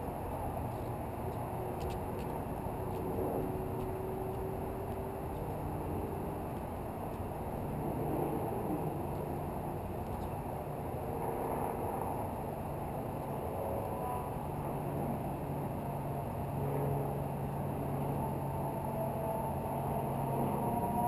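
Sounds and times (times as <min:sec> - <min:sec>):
city road traffic rumble: 0:00.0 - 0:21.0
constant low hum: 0:00.0 - 0:21.0.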